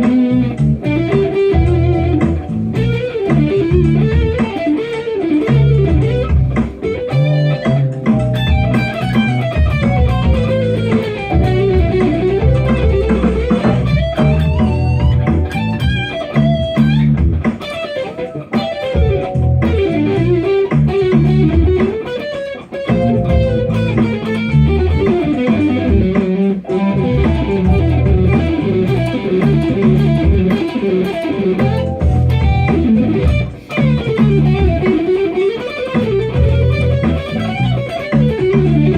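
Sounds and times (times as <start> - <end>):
instrumental pop music with guitar: 0.0 - 38.9.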